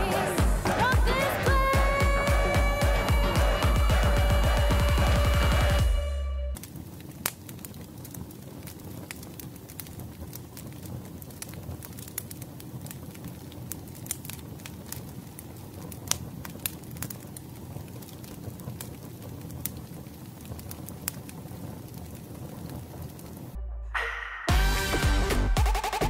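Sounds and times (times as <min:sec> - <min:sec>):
firewood crackling and popping: 0:00.0 - 0:23.6.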